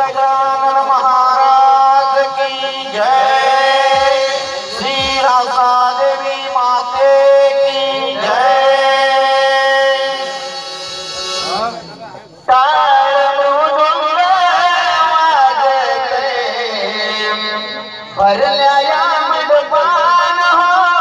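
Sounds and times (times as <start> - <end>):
man singing long notes: 0.0 - 21.0.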